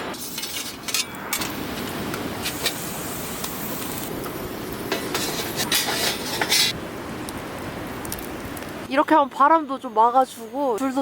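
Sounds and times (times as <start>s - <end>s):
gusty wind rushing: 0.0s - 9.0s.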